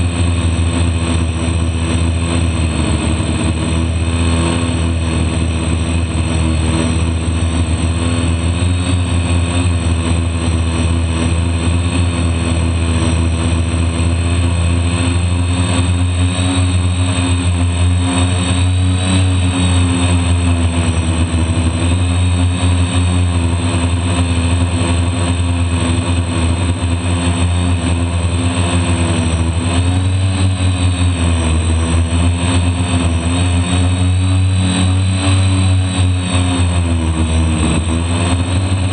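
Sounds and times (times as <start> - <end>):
drone motors and propellers whining: 0.0 - 38.9.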